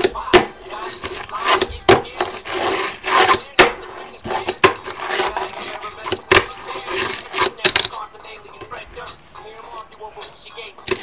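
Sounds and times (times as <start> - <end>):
fingerboard wheels rolling: 0.0 - 9.7.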